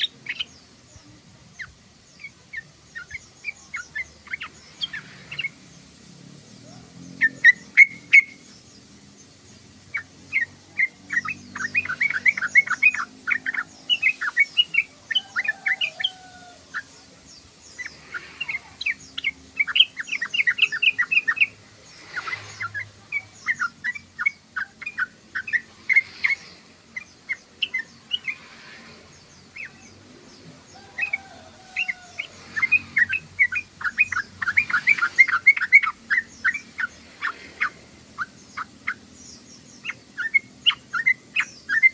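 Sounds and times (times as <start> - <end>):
bulbul chattering: 0.0 - 41.9.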